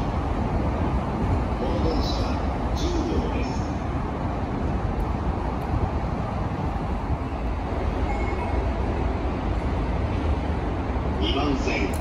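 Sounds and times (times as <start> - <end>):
train rolling on rails: 0.0 - 12.0.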